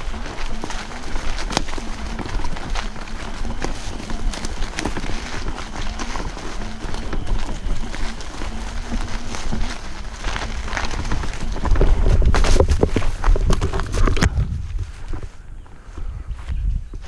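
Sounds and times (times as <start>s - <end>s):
scooter rumble: 0.0s - 17.0s
tyres crackling over leaves: 0.0s - 17.0s.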